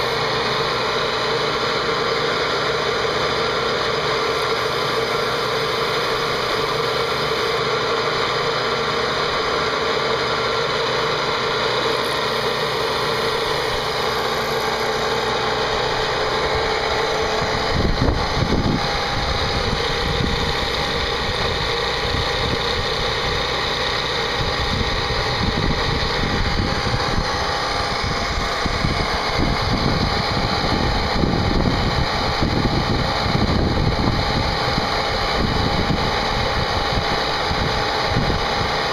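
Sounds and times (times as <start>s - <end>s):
machine whine: 0.0s - 38.9s.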